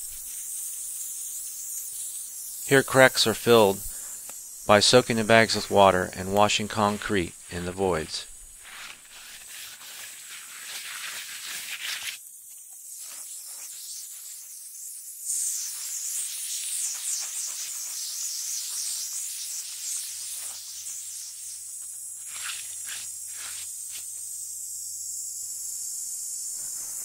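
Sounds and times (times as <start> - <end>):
water spraying from hose: 0.0 - 24.8.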